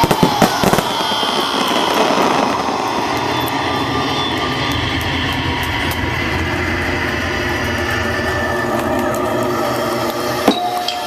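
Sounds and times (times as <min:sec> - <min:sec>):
firework burst: 0:00.0 - 0:11.0
fireworks crackling: 0:00.0 - 0:11.0.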